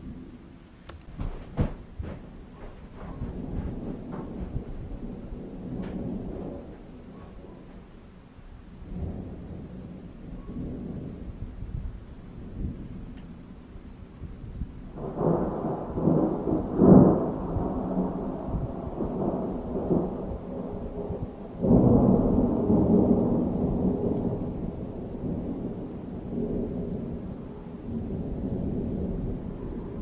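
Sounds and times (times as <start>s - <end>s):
rolling thunder: 0.0s - 30.0s.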